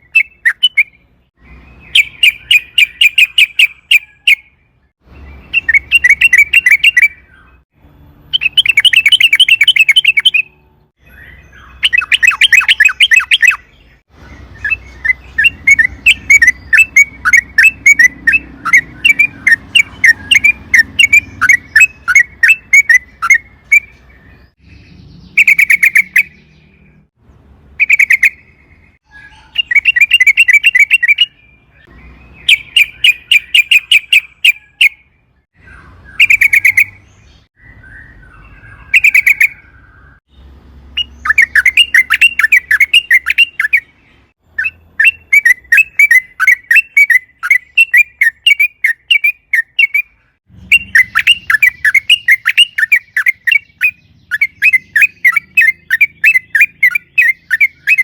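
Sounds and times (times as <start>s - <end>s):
bird chattering song: 0.0s - 7.6s, 8.3s - 58.0s.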